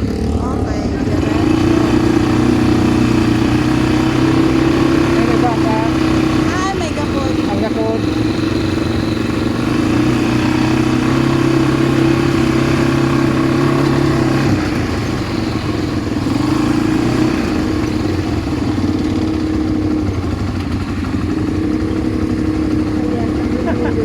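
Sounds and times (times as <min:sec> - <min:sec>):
atv engine running: 0:00.0 - 0:24.0
rough rushing noise: 0:00.0 - 0:24.0.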